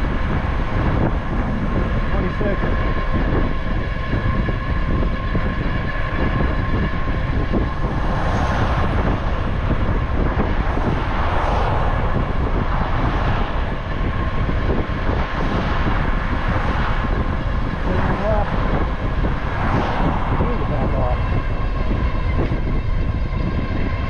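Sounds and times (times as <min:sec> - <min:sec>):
motor vehicles passing: 0:00.0 - 0:24.0
wind buffeting microphone: 0:00.0 - 0:24.0.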